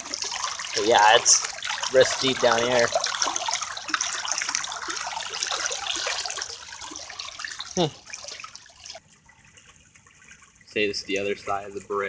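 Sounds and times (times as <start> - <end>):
water babbling over rocks: 0.0 - 12.0.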